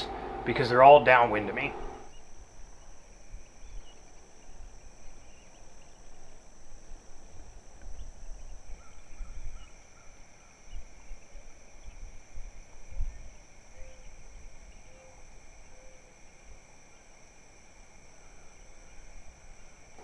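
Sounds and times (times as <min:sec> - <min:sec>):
lower insect drone: 0:00.0 - 0:20.0.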